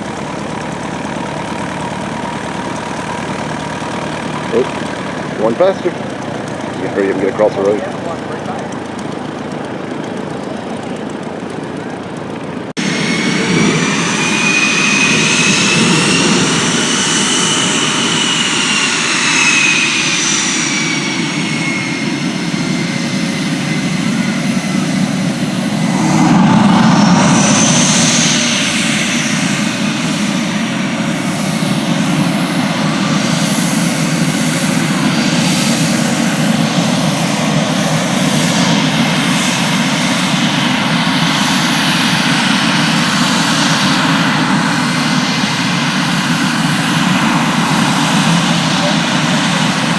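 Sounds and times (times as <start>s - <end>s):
airplane engine whining: 0.0s - 49.9s.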